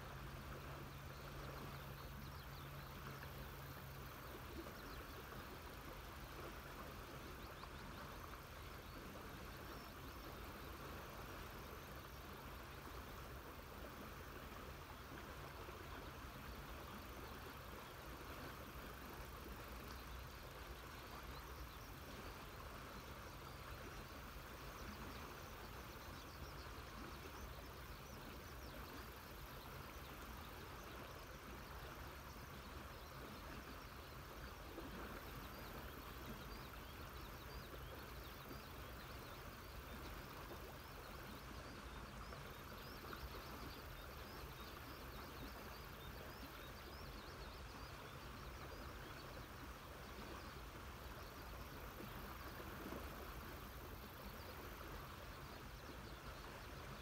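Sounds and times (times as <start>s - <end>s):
birds and insects chirping: 0.0s - 57.0s.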